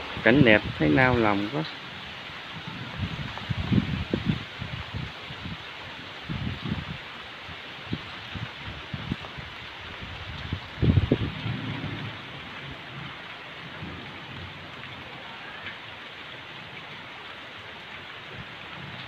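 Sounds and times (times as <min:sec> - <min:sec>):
steady rain on trees: 0:00.0 - 0:19.0.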